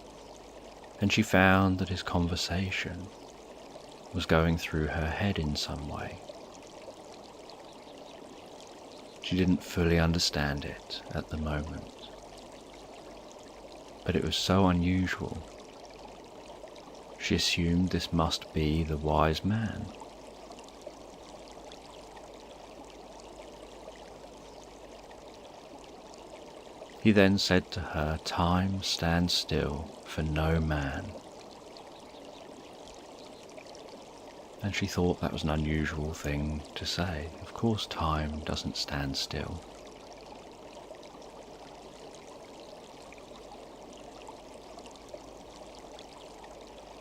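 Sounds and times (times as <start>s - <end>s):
stream running water: 0.0s - 47.0s.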